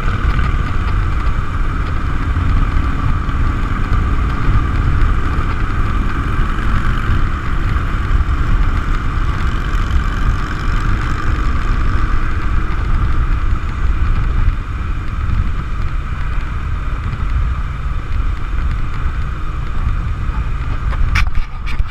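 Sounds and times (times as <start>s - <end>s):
motorcycle engine rumble: 0.0s - 21.9s
wind buffeting microphone: 0.0s - 21.9s.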